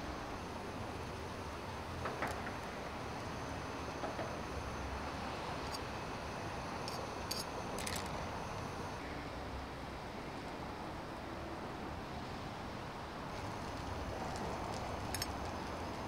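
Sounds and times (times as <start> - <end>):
steady rushing background noise: 0.0 - 16.0.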